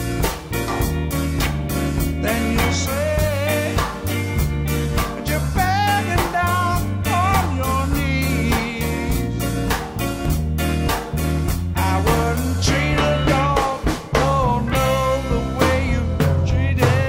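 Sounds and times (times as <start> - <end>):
bass guitar: 0.0 - 17.0
drum kit beat: 0.0 - 17.0
sustained organ chords: 0.0 - 17.0.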